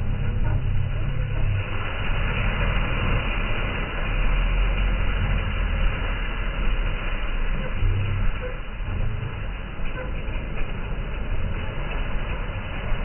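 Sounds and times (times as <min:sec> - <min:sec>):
engine running: 0:00.0 - 0:13.0
rushing noise: 0:00.0 - 0:13.0.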